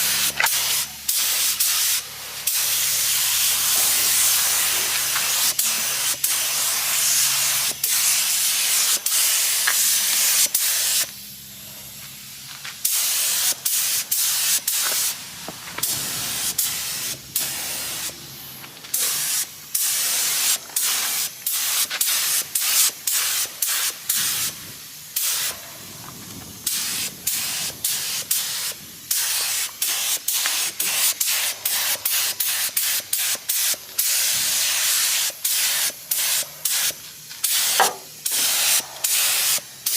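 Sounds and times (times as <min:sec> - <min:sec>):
air spray gun hissing: 0:00.0 - 0:39.9.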